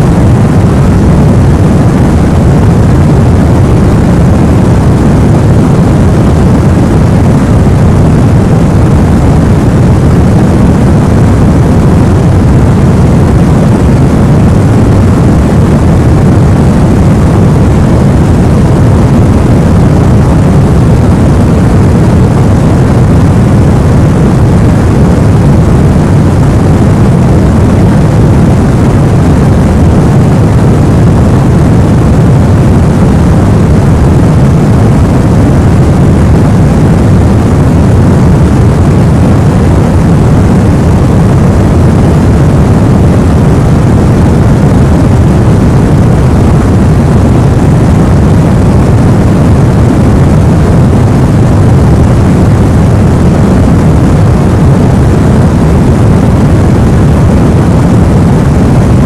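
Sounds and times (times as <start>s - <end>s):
deep rumbling white noise: 0.0s - 59.0s.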